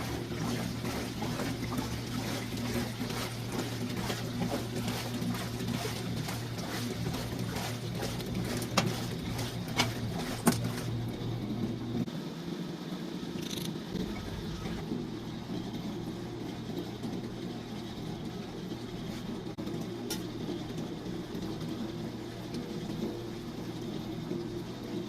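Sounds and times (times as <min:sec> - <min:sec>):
washing machine motor hum: 0:00.0 - 0:25.0.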